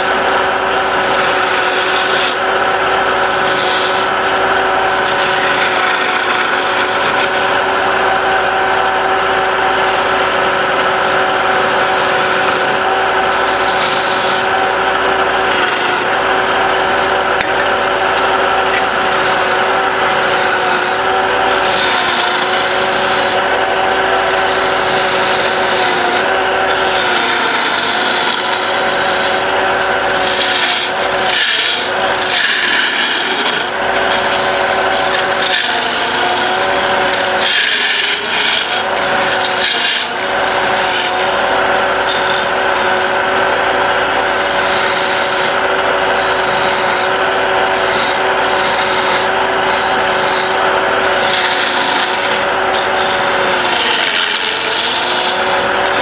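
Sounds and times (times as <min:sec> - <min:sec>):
turning tool scraping wood: 0:00.0 - 0:56.0
wood lathe motor whine: 0:00.0 - 0:56.0.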